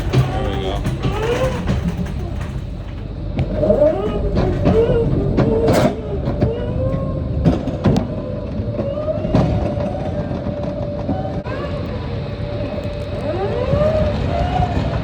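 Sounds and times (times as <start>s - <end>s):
forklift motor whine: 0.0s - 15.0s.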